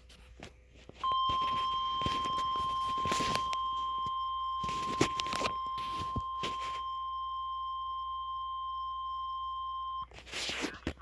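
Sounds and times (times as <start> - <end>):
steady alarm tone: 1.0 - 10.0.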